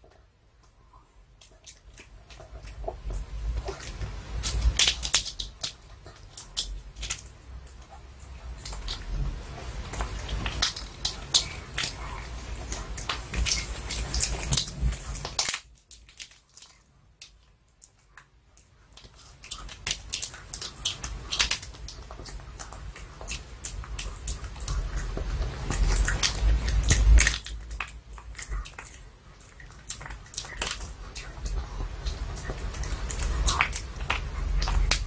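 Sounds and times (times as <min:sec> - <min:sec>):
dog crunching on bone: 0:01.4 - 0:18.3, 0:18.9 - 0:35.0.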